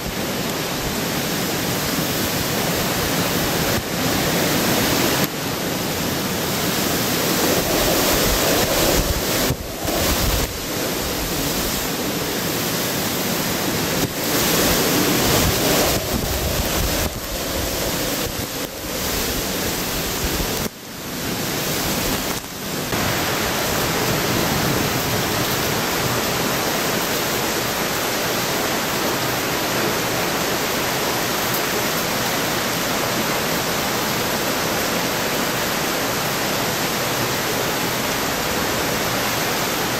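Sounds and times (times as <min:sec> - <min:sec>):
floodwater rushing over a drop: 0:00.0 - 0:39.9
wind gusting on microphone: 0:00.0 - 0:39.9.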